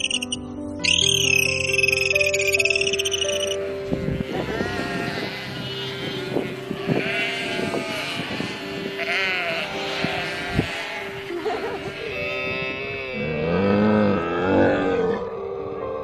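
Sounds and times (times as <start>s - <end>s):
livestock bleating: 1.7s - 15.2s.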